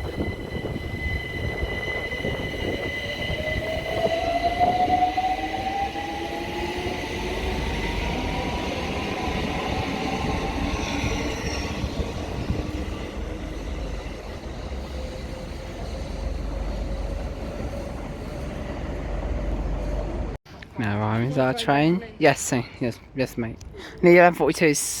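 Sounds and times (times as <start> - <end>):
train wheels rumbling on rail: 0.0 - 20.4.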